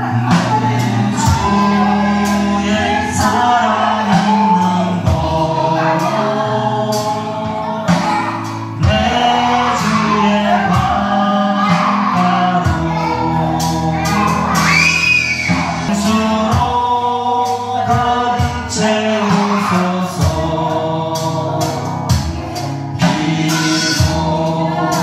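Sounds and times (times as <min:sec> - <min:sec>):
gospel music from a tv: 0:00.0 - 0:25.0.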